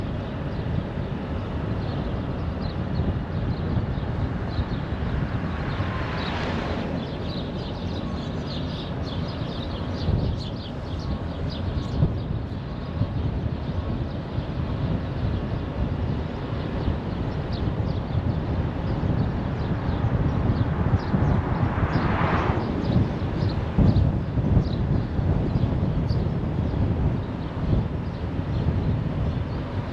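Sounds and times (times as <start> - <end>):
tyre and wind road rumble: 0.0 - 29.9.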